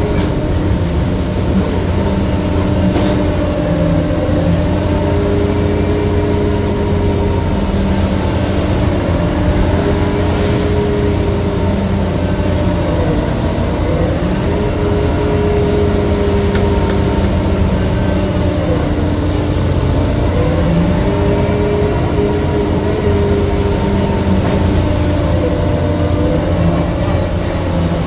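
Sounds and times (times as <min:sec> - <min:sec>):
boat engine and deck machinery drone: 0:00.0 - 0:28.0.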